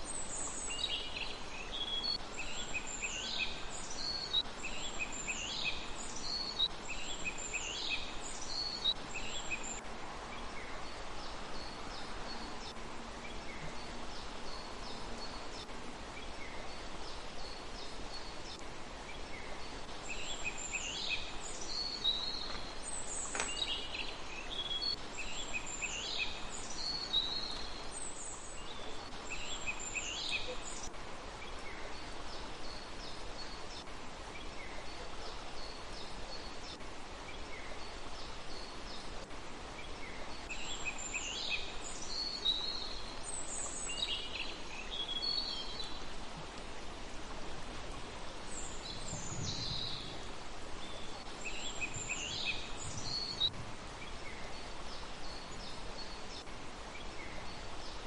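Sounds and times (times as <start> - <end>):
songbird singing: 0.0 - 58.0
steady background hiss: 0.0 - 58.0.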